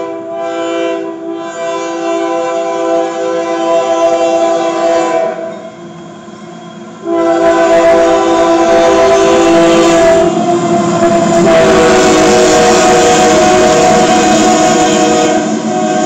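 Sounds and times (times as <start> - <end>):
locomotive air horn blasts: 0.0 - 5.6, 7.0 - 16.0
train rumbling: 0.0 - 16.0.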